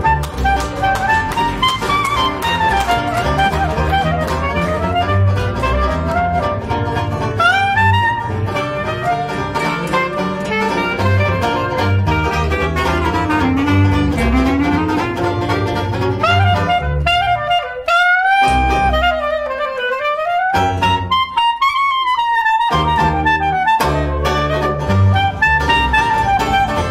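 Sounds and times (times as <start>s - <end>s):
strummed banjo: 0.0s - 17.7s, 22.6s - 26.9s
clarinet lead line: 0.0s - 26.9s
plucked double bass: 0.0s - 26.9s.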